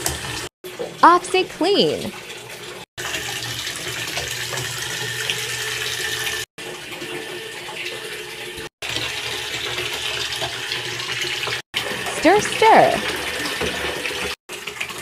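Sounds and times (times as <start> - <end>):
water running from a tap into a bathtub: 0.0 - 15.0.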